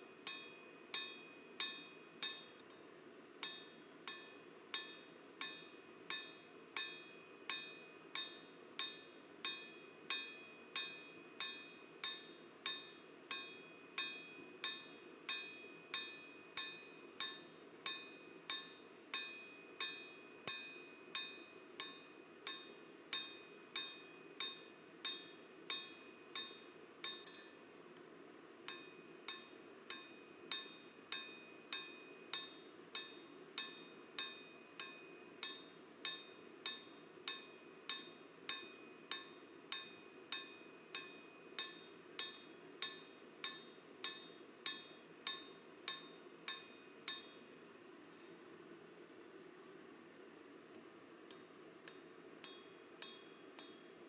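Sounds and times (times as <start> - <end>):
hammer striking steel on anvil: 0.2 - 2.6, 3.4 - 27.6, 28.7 - 47.6, 51.3 - 54.0.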